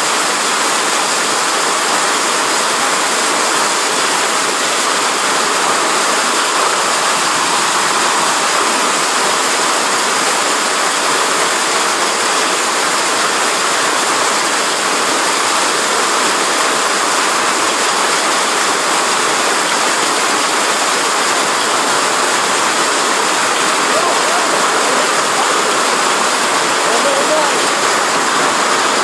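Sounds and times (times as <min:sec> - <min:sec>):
heavy rain and hail on pavement: 0:00.0 - 0:29.0.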